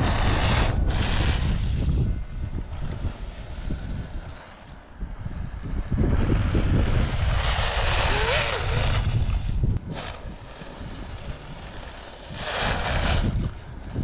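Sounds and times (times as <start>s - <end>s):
small electric motor whirring: 0.0s - 14.0s
wind rumbling on microphone: 0.0s - 14.0s.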